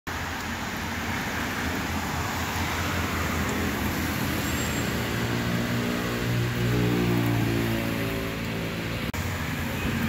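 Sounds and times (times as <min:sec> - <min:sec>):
car tyres hissing on wet road: 0:00.1 - 0:10.0.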